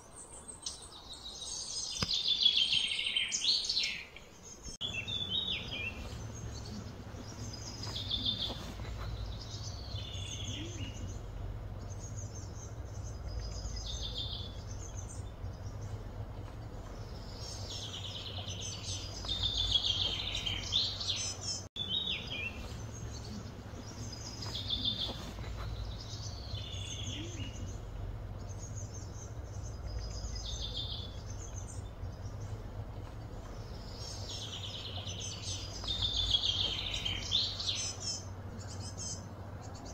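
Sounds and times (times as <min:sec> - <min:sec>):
birds chirping: 0:00.0 - 0:39.9
low background hum: 0:00.0 - 0:39.9.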